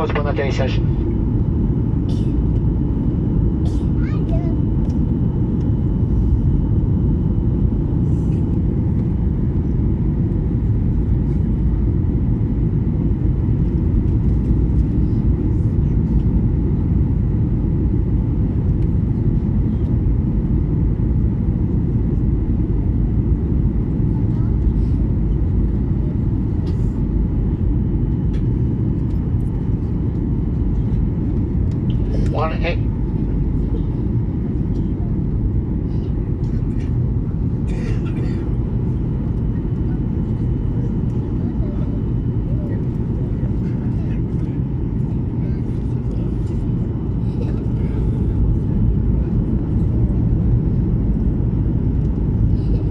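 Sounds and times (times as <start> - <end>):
airliner engine and airflow rumble: 0.0 - 52.9.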